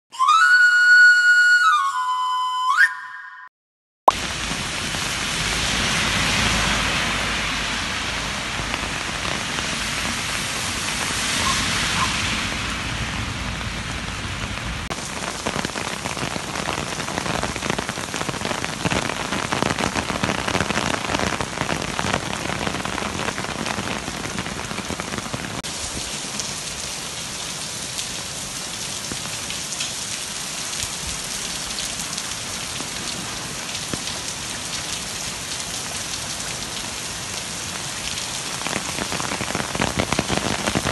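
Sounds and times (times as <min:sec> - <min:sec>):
heavy rain on stone paving: 0:04.1 - 0:40.9.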